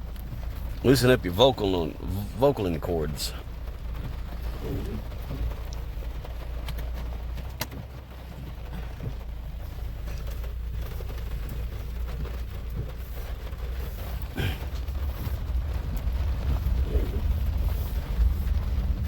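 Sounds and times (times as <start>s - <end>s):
engine and road rumble: 0.0s - 19.0s.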